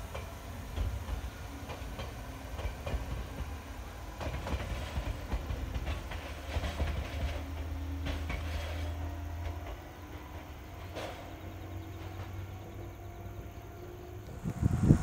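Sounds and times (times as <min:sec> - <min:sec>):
wheels clacking over rail joints: 0:00.0 - 0:13.2
electric train rumbling: 0:00.0 - 0:15.0.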